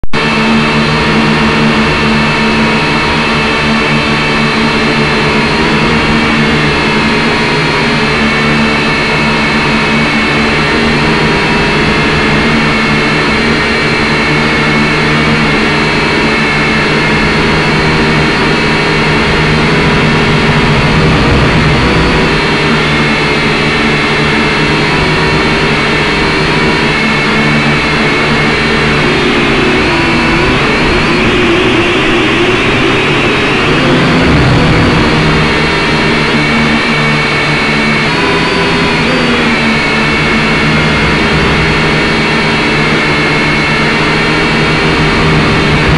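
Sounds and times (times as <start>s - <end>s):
drone motors whining: 0.1s - 45.9s.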